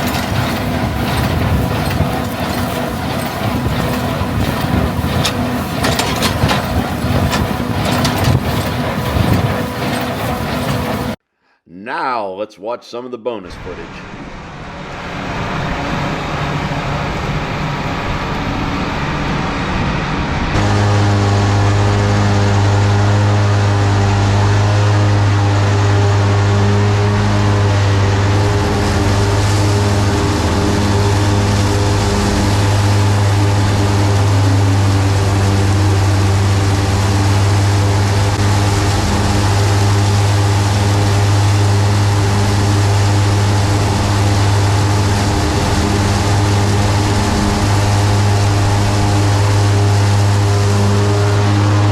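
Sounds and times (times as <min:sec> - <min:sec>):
loud even hum: 0:00.0 - 0:11.2, 0:13.5 - 0:51.9
rotary mower rushing: 0:00.0 - 0:11.2, 0:20.6 - 0:51.9
tractor engine drone: 0:00.0 - 0:11.2, 0:13.8 - 0:51.9.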